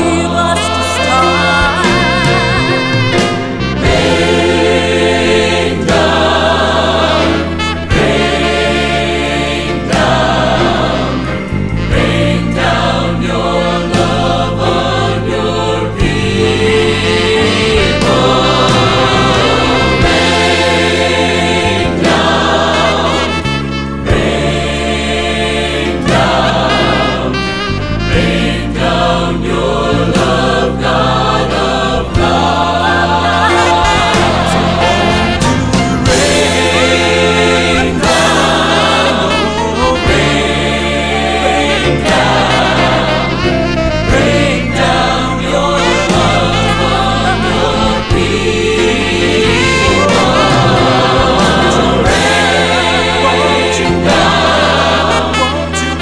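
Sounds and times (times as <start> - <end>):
choir singing a hymn: 0.0 - 56.0
low accompaniment: 0.0 - 56.0.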